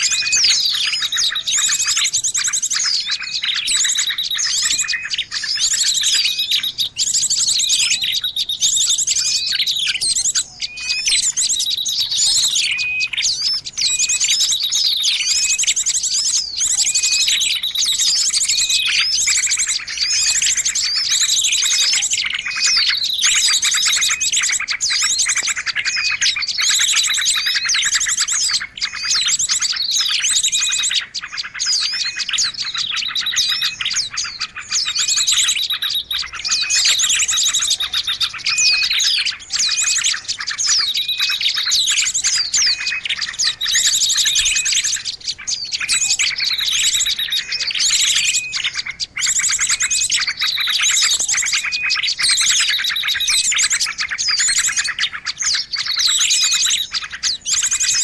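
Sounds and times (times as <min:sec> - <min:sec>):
small songbirds calling: 0:00.0 - 0:58.0.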